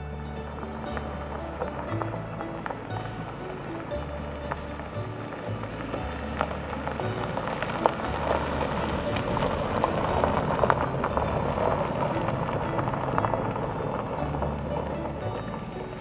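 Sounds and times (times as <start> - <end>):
background music: 0.0 - 16.0
tyres crunching on gravel: 0.0 - 16.0.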